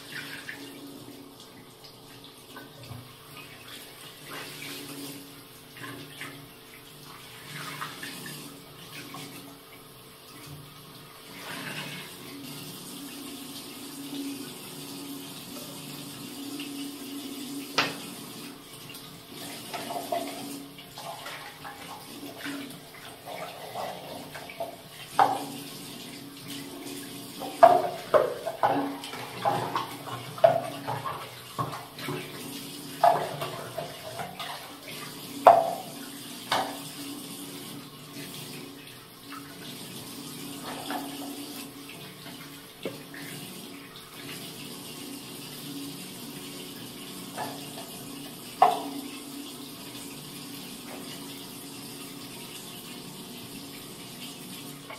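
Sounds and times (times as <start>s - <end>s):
tap running into washbasin: 0.0s - 54.9s.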